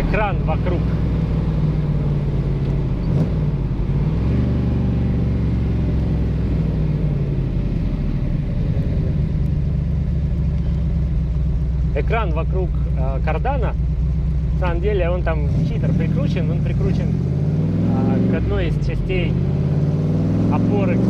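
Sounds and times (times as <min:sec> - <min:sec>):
car engine running: 0:00.0 - 0:21.0
road and wind noise: 0:00.0 - 0:21.0.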